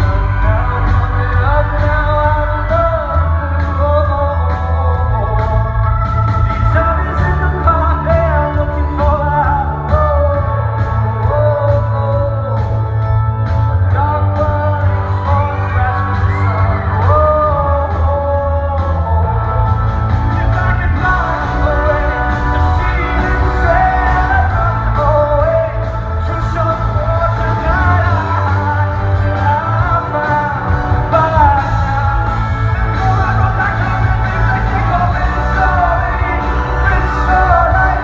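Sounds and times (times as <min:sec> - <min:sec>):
drums: 0:00.0 - 0:38.0
heavy bass line: 0:00.0 - 0:38.0
male singer: 0:00.0 - 0:38.0.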